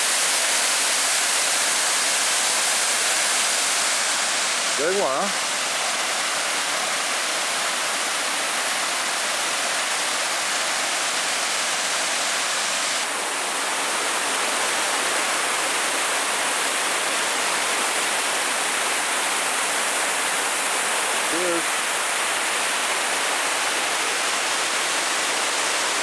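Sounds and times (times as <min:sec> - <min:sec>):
water pouring over a dam: 0:00.0 - 0:26.0.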